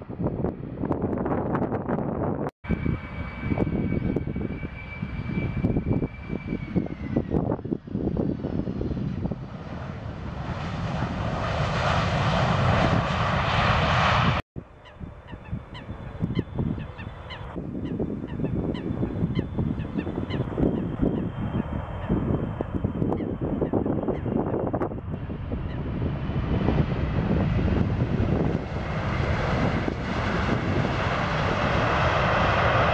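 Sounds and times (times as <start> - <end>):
jet engine roar: 0.0 - 32.9
jet engines rumbling: 0.0 - 32.9
jet engines whining: 0.0 - 32.9.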